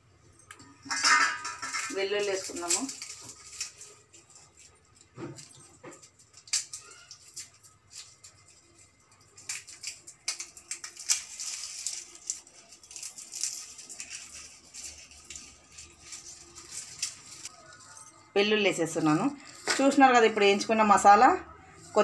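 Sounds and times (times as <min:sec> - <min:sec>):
garlic skins crackling and rustling: 0:00.3 - 0:22.0.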